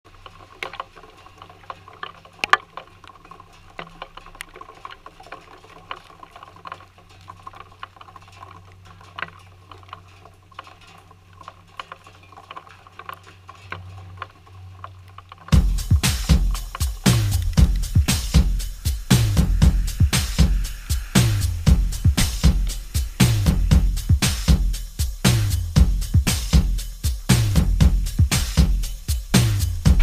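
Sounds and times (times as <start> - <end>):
rain dripping on wooden deck: 0.0 - 30.0.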